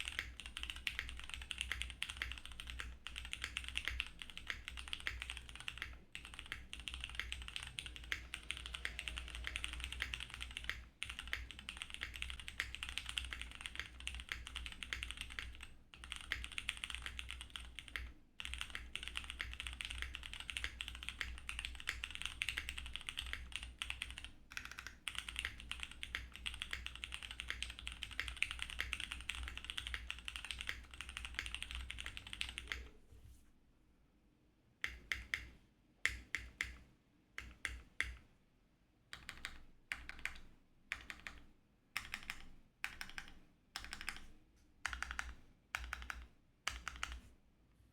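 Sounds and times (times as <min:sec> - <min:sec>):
typing on mechanical keyboard: 0:00.0 - 0:32.9, 0:39.1 - 0:47.2.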